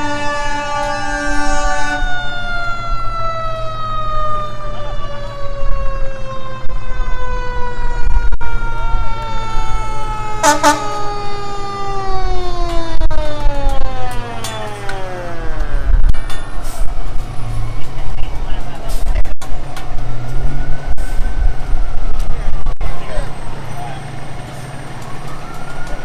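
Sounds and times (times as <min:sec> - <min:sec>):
emergency siren winding down: 0:00.0 - 0:19.0, 0:19.6 - 0:26.0.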